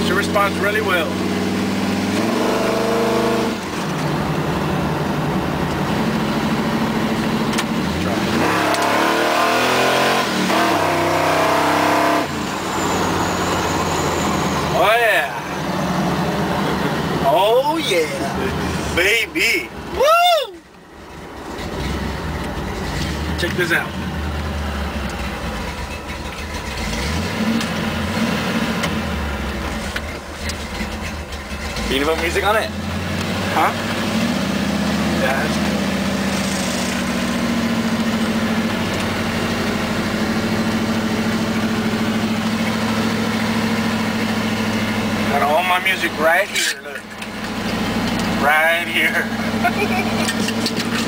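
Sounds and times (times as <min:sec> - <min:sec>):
engine revving and idling: 0:00.0 - 0:20.0, 0:21.0 - 0:51.0.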